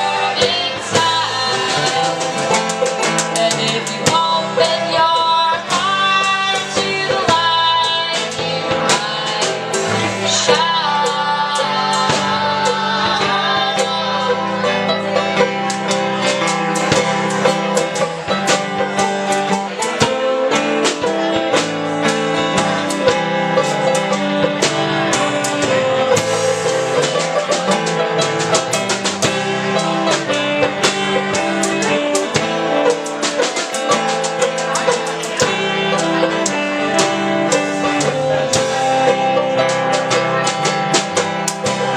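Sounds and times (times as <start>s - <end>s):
folk band playing live: 0.0s - 41.9s.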